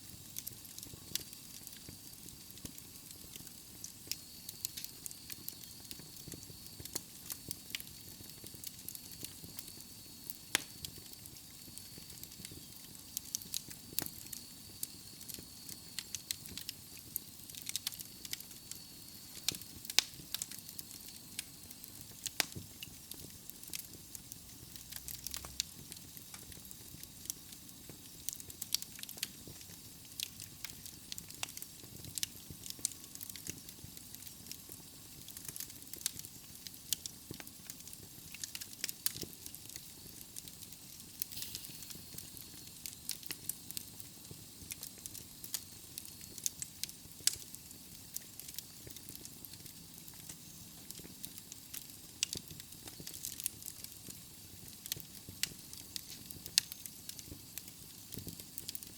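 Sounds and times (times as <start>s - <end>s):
wood fire hissing: 0.0s - 58.9s
logs crackling and popping: 0.1s - 58.9s.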